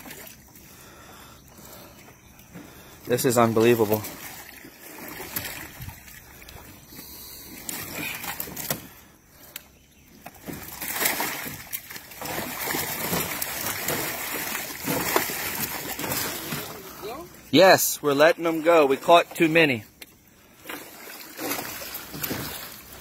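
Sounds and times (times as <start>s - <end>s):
fish splashing in water: 0.0s - 3.0s, 3.6s - 9.5s, 10.2s - 17.4s, 20.5s - 23.0s.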